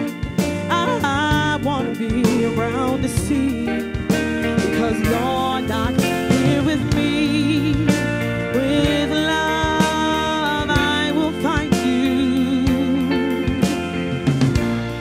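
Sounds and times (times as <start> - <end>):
drums: 0.0 - 15.0
electric guitar: 0.0 - 15.0
woman singing with vibrato: 0.7 - 14.1.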